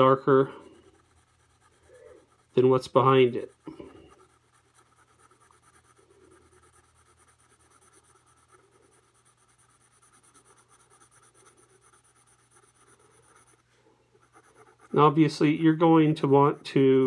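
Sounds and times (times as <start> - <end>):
pencil shading on paper: 0.0 - 17.0.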